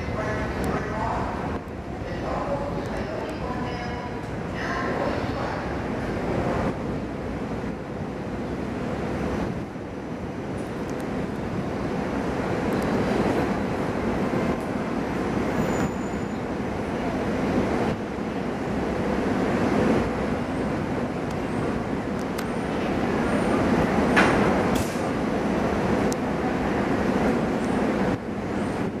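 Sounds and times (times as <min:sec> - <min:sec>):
train rolling over rails: 0:00.0 - 0:29.0.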